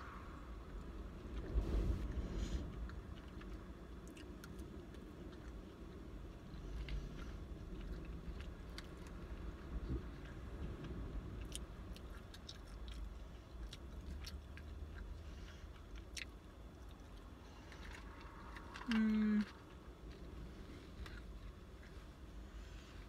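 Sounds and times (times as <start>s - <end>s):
person chewing food: 0.6s - 23.0s.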